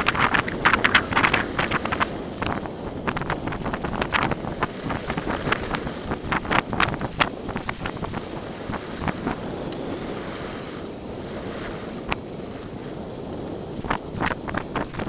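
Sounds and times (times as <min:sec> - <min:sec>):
ski clicks and scrapes: 0:00.0 - 0:12.8
wind rushing over microphone: 0:00.0 - 0:15.0.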